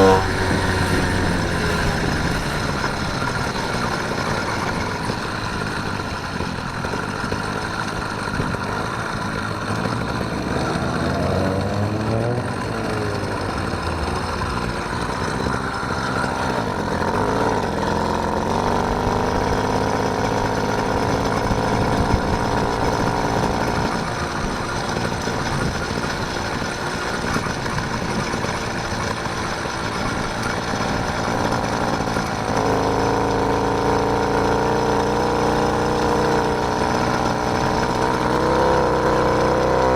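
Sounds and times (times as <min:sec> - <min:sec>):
motorised bicycle engine running: 0:00.0 - 0:39.9.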